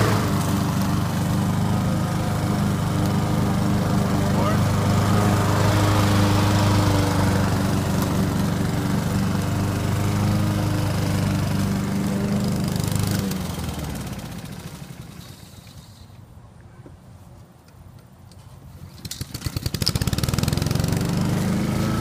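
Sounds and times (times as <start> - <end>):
lawn mower engine running: 0.0 - 16.2, 18.8 - 22.0.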